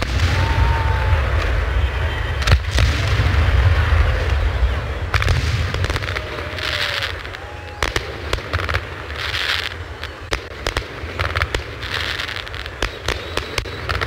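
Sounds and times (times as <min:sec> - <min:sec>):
fireworks bangs: 0:00.0 - 0:14.0
fireworks hissing crackle: 0:00.0 - 0:14.0.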